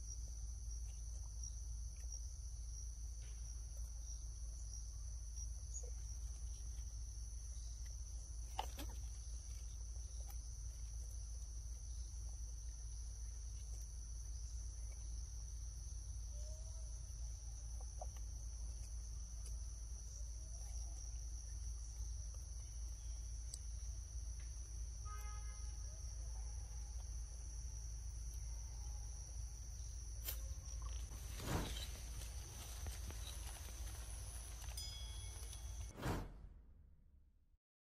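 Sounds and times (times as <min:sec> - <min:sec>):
insects droning: 0:00.0 - 0:35.9.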